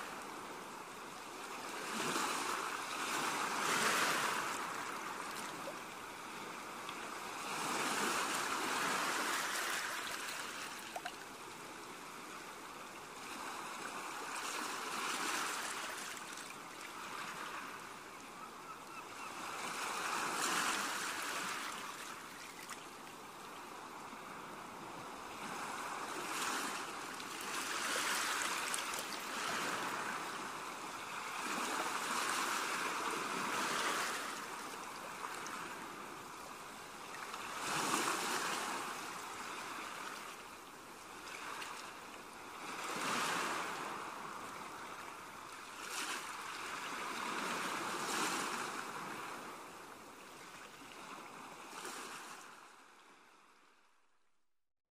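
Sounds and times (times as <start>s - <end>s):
gentle waves on sandy beach: 0.0s - 53.8s.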